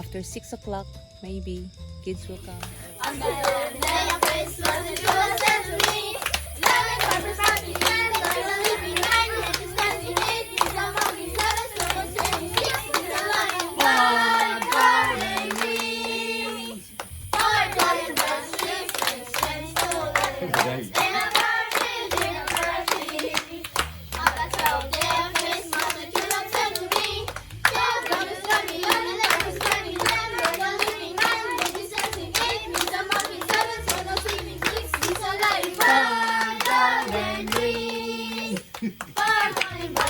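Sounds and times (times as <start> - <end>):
rhythmic clapping: 2.4 - 40.0
children singing a carol: 2.8 - 40.0.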